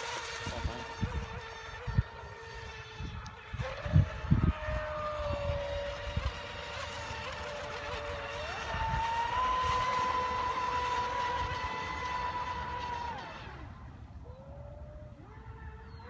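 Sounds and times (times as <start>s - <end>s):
electric motor whining: 0.0s - 16.0s
wind buffeting microphone: 0.0s - 16.0s.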